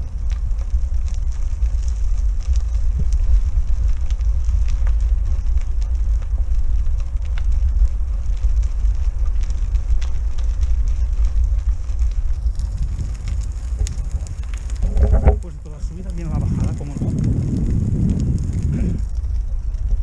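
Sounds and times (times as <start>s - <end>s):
tyre rolling over stony trail: 0.0s - 20.0s
wind rumble on microphone: 0.0s - 20.0s.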